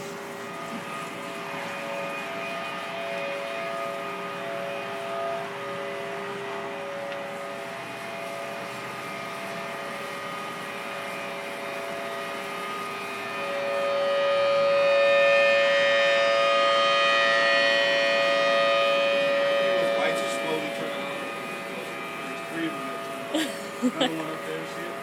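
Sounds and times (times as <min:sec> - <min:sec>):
warning siren steady tone: 0:00.0 - 0:25.0.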